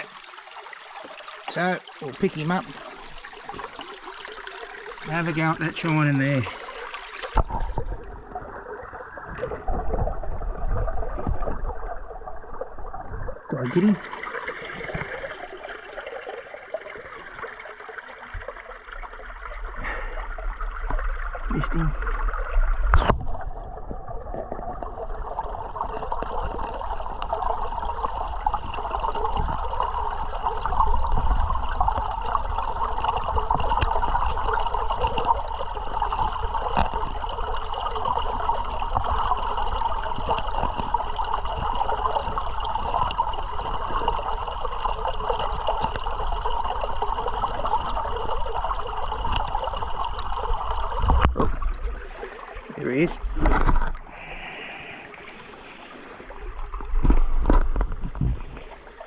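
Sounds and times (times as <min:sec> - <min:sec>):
creek water splashing over rocks: 0:00.0 - 0:59.0.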